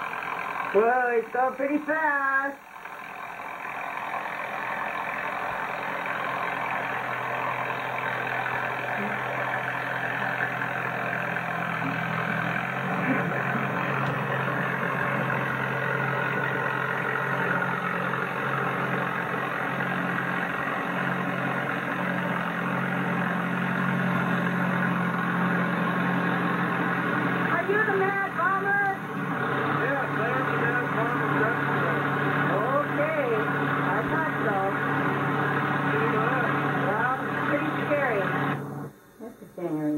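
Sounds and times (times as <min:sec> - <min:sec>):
tractor engine running: 0:00.0 - 0:39.2.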